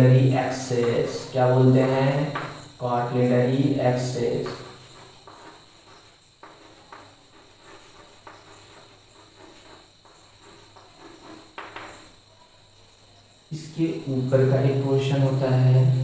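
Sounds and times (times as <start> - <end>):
chalk scratching on blackboard: 0.0 - 16.0.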